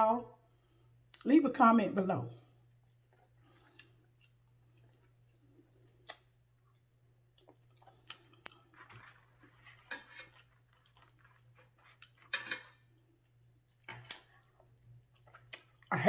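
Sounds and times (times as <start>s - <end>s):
faint steady hum: 0.0s - 16.0s
person chewing food: 2.9s - 15.9s.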